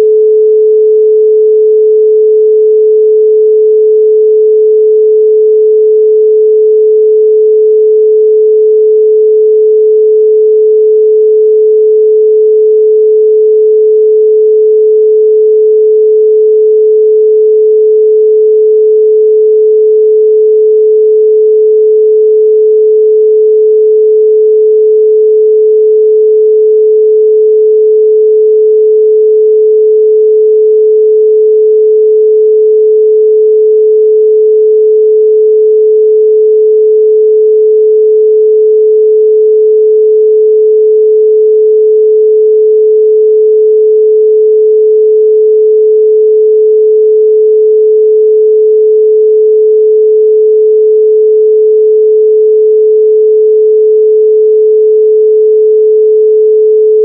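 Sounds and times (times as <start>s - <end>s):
pure sine tone: 0.0s - 57.0s.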